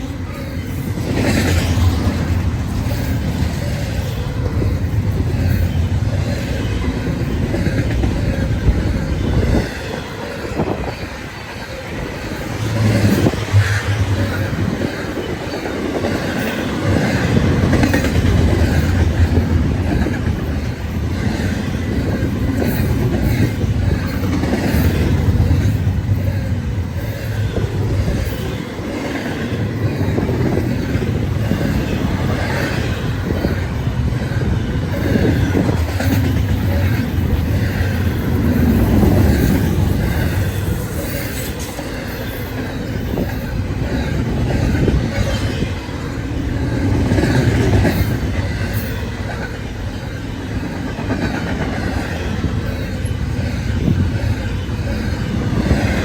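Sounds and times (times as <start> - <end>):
train wheels rumbling on rails: 0.0 - 56.0
wheels clacking over rail joints: 0.0 - 56.0.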